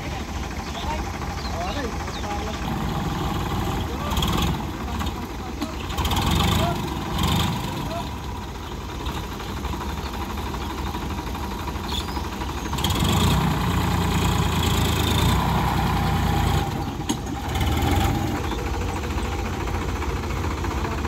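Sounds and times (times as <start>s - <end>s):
tractor engine rumbling: 0.0s - 21.0s.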